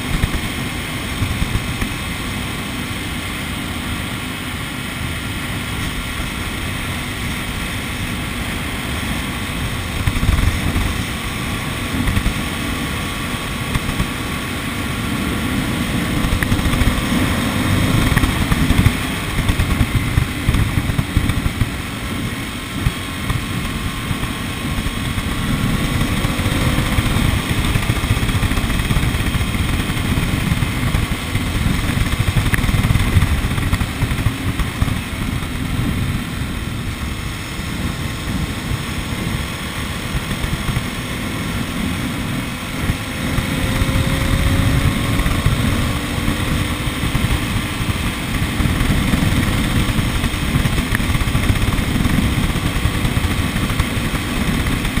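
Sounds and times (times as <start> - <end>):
vehicle engine and road rumble: 0.0 - 55.0
wind buffeting microphone: 0.0 - 55.0.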